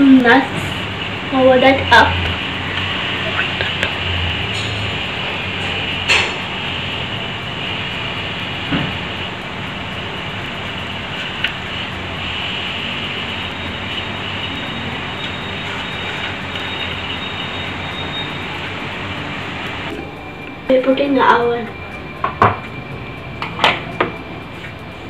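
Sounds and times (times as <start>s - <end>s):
low humming drone: 0.0s - 25.0s.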